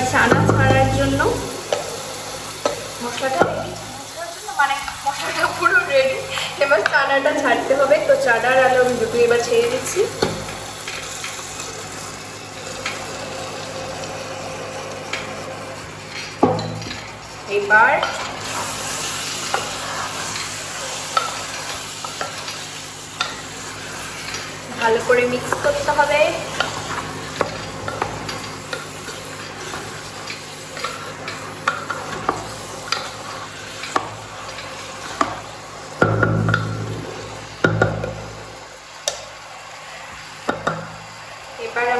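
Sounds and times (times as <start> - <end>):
cooktop humming: 0.0 - 41.9
masala sizzling in a pot: 0.0 - 41.9.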